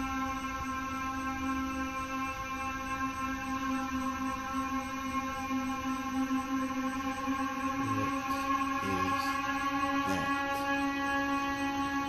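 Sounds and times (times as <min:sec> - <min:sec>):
eerie droning tone: 0:00.0 - 0:12.0.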